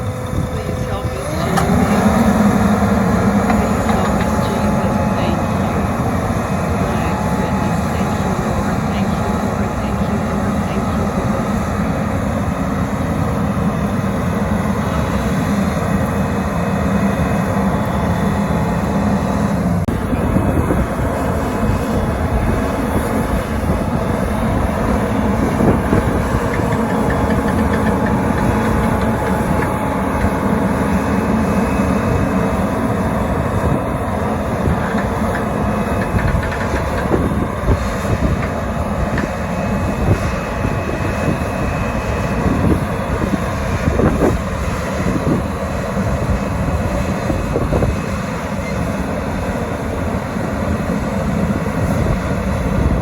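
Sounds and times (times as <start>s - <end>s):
diesel engine rumbling: 0.0s - 53.0s.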